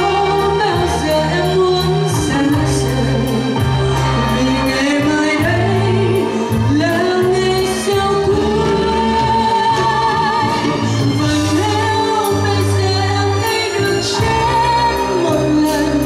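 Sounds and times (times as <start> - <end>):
rock band playing: 0.0 - 16.0
woman singing: 0.0 - 16.0.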